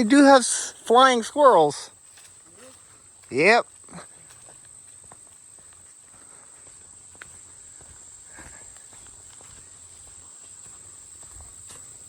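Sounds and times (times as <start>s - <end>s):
footsteps on a trail: 0.0s - 12.0s
insects trilling: 0.0s - 12.0s.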